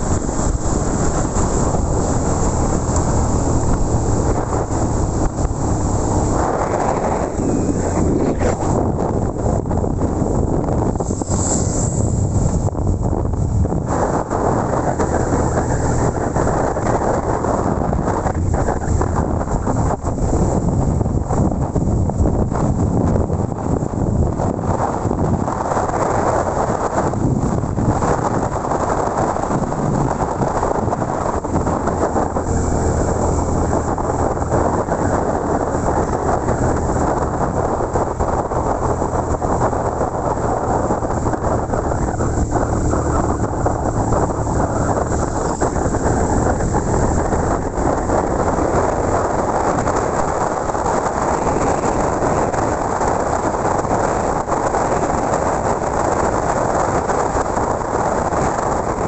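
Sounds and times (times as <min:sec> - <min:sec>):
motorcycle engine hum: 0:00.0 - 0:59.0
wind and road noise: 0:00.0 - 0:59.0.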